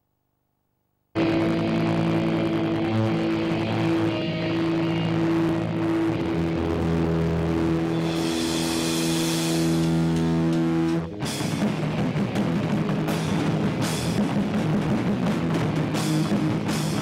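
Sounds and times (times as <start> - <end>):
distorted electric guitar drones: 1.2 - 17.0.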